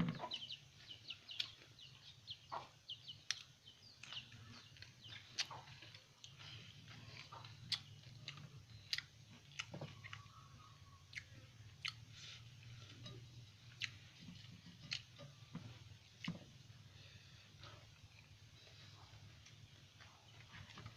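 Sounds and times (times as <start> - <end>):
faint low hum: 0.0 - 20.9
person chewing food: 0.7 - 20.9.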